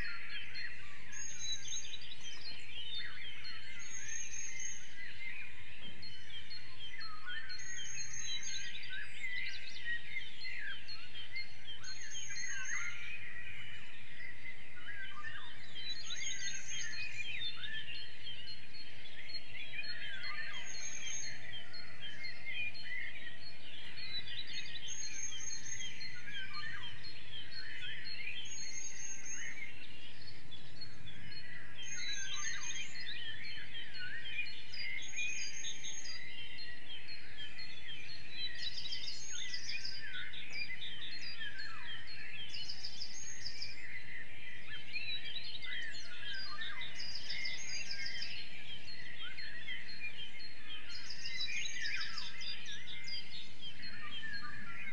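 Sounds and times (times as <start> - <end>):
songbirds chorus: 0.0 - 54.9.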